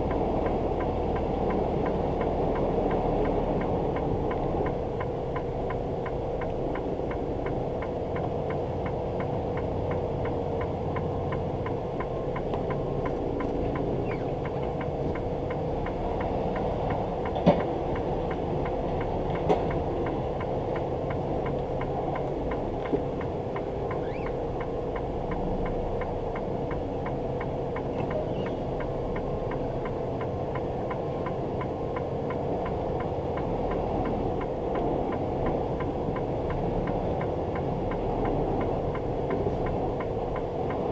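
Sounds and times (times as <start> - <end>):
road noise: 0.0 - 40.9
truck engine drone: 0.0 - 40.9.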